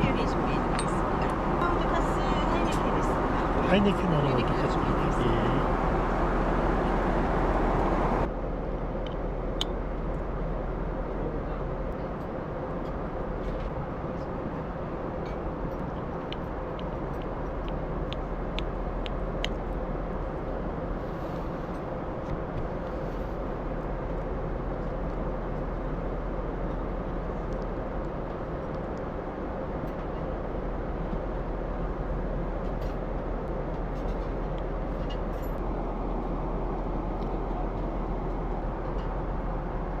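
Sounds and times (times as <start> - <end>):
airliner cabin noise: 0.0 - 40.0.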